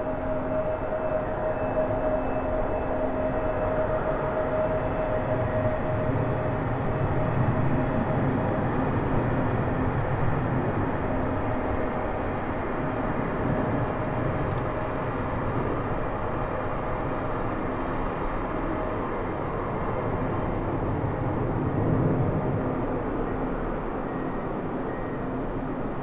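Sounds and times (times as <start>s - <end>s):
faint jet whine: 0.0s - 26.0s.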